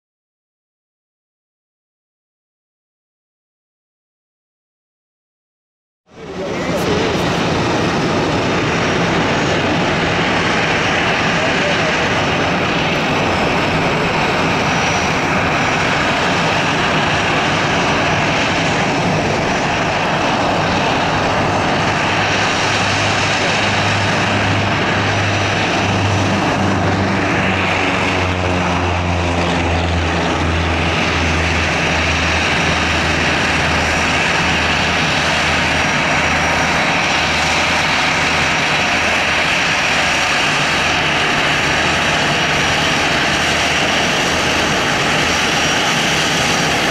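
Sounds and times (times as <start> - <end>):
jet engines taxiing: 6.1 - 46.9.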